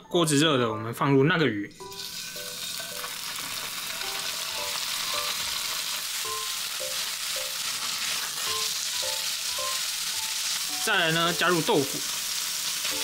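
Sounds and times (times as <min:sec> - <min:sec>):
fish sizzling in hot oil: 0:01.8 - 0:13.0.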